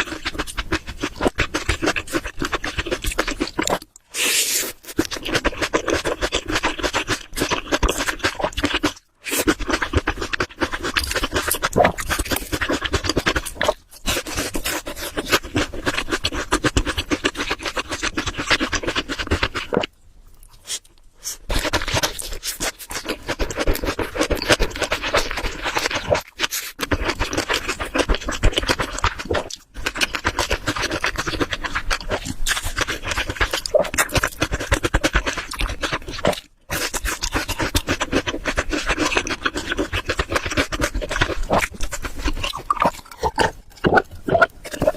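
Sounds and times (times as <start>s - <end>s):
close-miked chewing and scraping: 0.0s - 44.9s.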